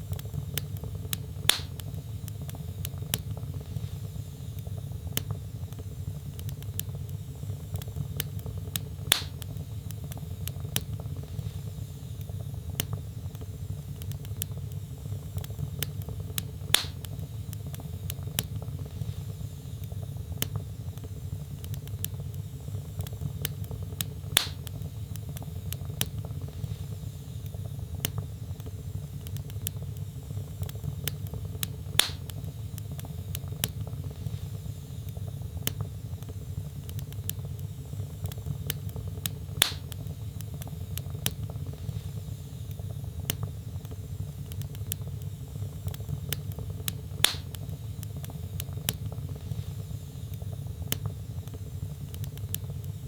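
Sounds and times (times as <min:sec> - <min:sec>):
logs crackling in fireplace: 0:00.0 - 0:53.0
low rumble of fire: 0:00.0 - 0:53.0
loud fire pops: 0:00.1 - 0:27.0, 0:27.9 - 0:52.8.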